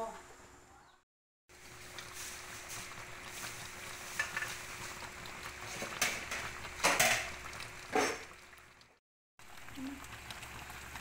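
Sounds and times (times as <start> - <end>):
broth simmering and bubbling: 1.5 - 11.0.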